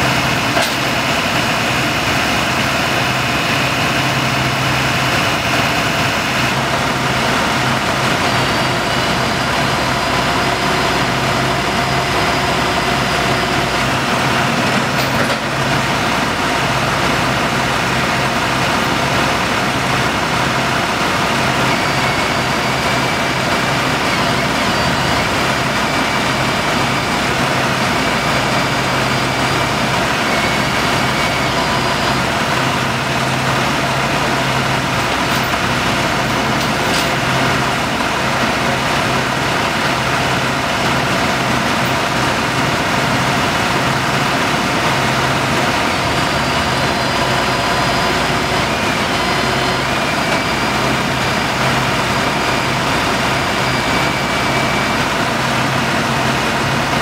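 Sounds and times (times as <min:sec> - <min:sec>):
diesel truck engines idling: 0:00.0 - 0:57.0.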